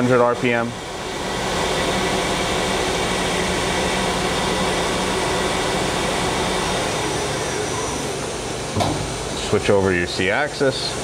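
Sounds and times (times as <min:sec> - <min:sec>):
machine spindle whirring: 0:00.0 - 0:11.0.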